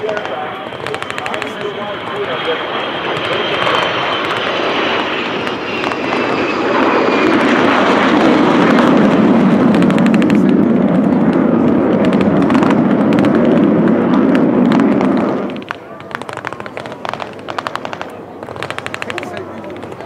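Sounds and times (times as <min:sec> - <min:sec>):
jet aircraft roar: 0:00.0 - 0:20.0.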